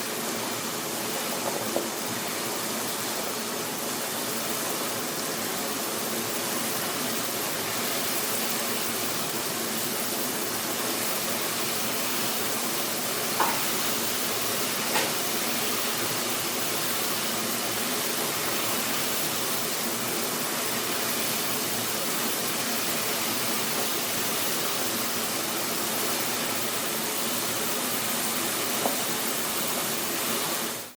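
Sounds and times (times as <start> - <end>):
water boiling: 0.0 - 30.9.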